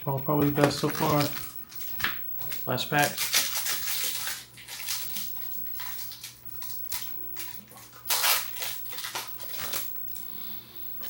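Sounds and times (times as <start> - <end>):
foil wrapper crinkling: 0.0 - 10.3.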